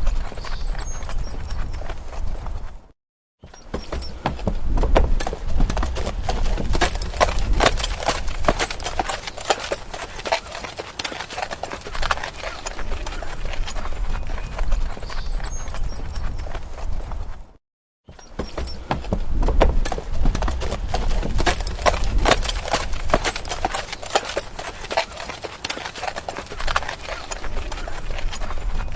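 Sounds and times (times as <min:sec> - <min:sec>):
horse hooves clip-clopping: 0:00.0 - 0:28.9.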